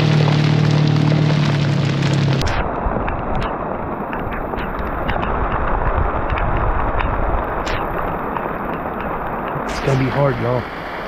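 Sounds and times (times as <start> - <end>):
rain pattering on vehicle roof: 0.0 - 11.0
vehicle engine hum: 0.0 - 11.0.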